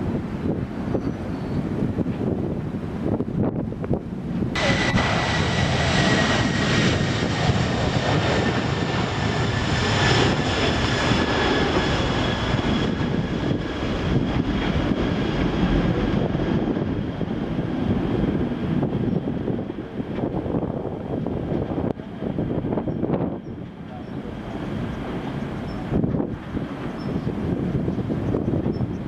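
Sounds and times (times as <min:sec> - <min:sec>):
jet engines rumbling and whining: 0:00.0 - 0:29.0.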